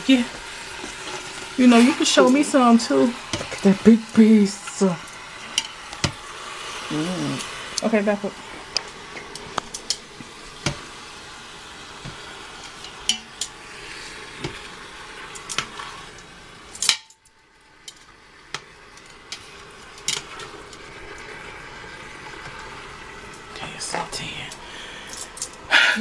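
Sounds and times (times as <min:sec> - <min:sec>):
beef sizzling in a pot: 0:00.0 - 0:26.0.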